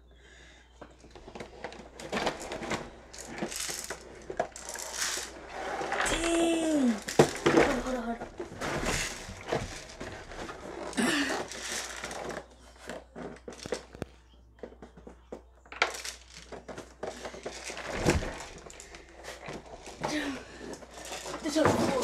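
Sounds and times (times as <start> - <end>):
cardboard packaging crinkling: 1.1 - 14.0, 15.9 - 22.0.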